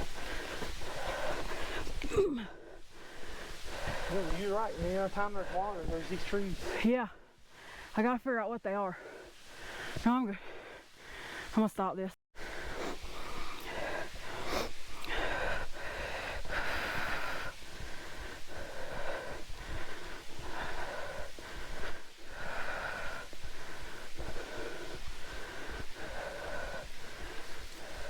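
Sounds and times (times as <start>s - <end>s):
person breathing heavily: 0.0s - 8.0s, 8.8s - 11.6s, 12.4s - 28.0s.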